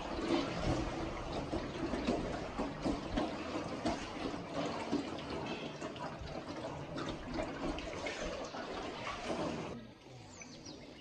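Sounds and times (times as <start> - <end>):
water lapping around boat: 0.0 - 11.0.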